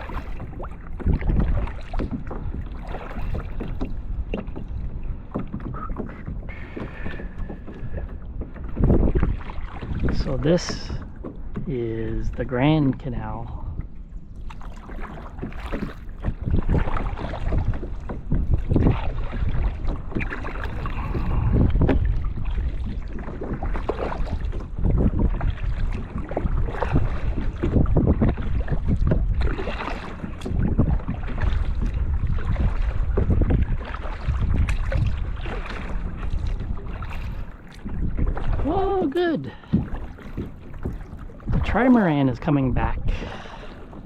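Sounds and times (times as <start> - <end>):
paddle dipping and splashing: 0.0 - 44.0
wind on microphone: 0.0 - 44.0.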